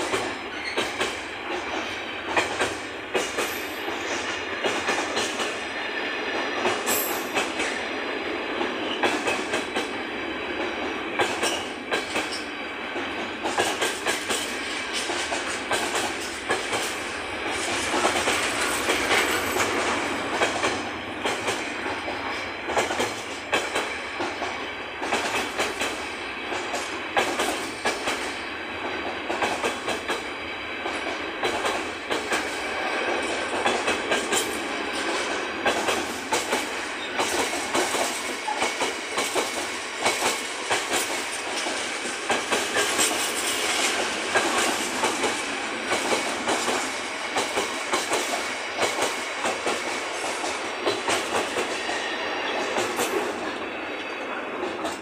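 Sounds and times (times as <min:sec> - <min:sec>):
wheels clicking over rail joints: 0:00.0 - 0:05.6, 0:06.3 - 0:07.8, 0:10.6 - 0:51.9
train wheels rumbling on rails: 0:00.0 - 0:55.0.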